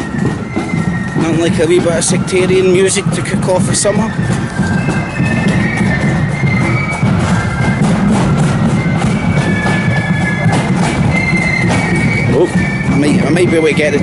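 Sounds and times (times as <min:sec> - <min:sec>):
bagpipes playing: 0:00.0 - 0:14.0
drums beating: 0:00.0 - 0:14.0.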